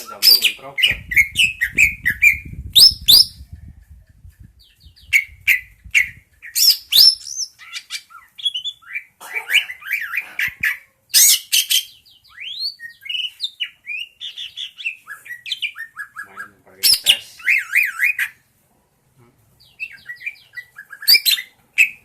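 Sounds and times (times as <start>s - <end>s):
bird chirping and whistling: 0.0s - 3.4s, 4.6s - 18.4s, 19.7s - 22.0s.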